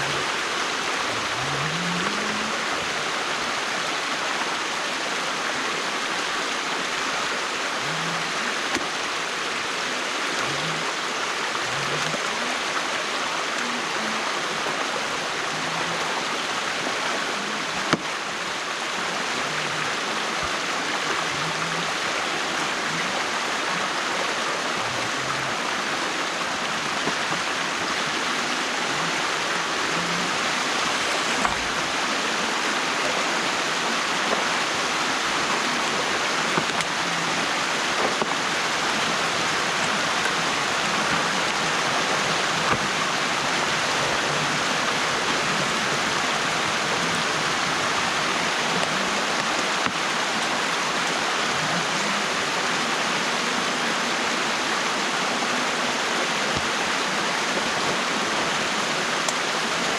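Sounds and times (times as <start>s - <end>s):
water rushing through dam: 0.0s - 59.9s.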